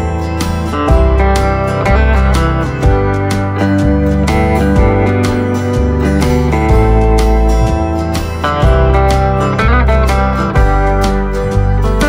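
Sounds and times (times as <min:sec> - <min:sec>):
bass line: 0:00.0 - 0:12.0
guitar music: 0:00.0 - 0:12.0.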